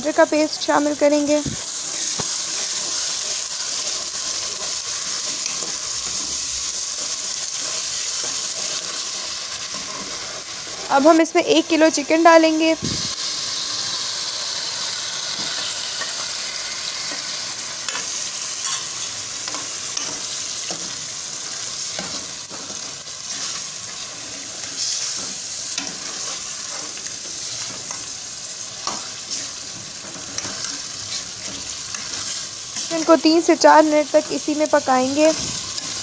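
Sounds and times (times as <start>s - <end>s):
chicken sizzling in pot: 0.0s - 36.0s.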